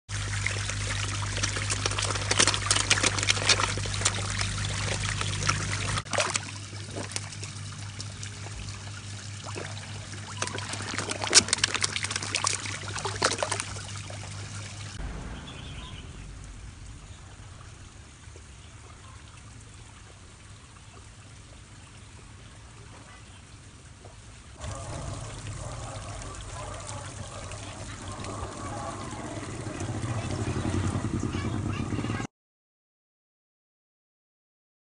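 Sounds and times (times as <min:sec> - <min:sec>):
trickling water: 0:00.1 - 0:31.4
fish splashing and slurping: 0:00.1 - 0:31.8
steady low hum: 0:00.2 - 0:32.2.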